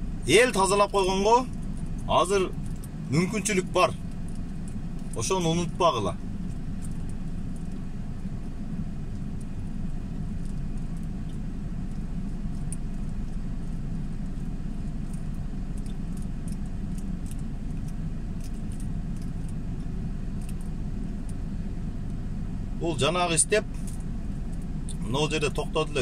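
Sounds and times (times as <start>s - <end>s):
car rumble: 0.0s - 26.0s.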